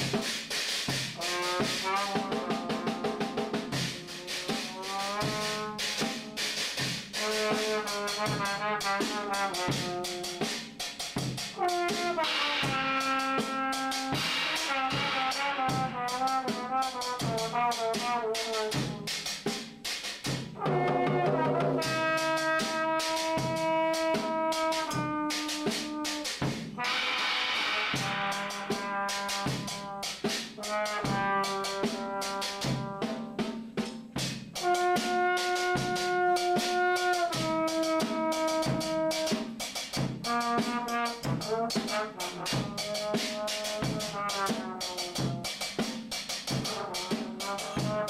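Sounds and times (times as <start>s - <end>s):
drum kit beating: 0.0s - 48.0s
brass horn playing held notes: 0.9s - 19.5s, 20.5s - 33.6s, 34.5s - 45.7s, 46.5s - 48.0s.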